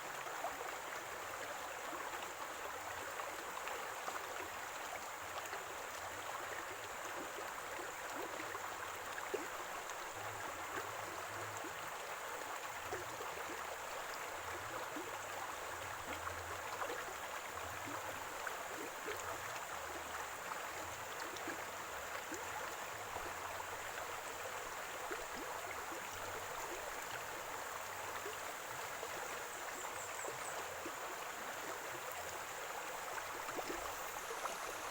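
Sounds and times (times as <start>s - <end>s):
stream water gurgling: 0.0s - 34.9s.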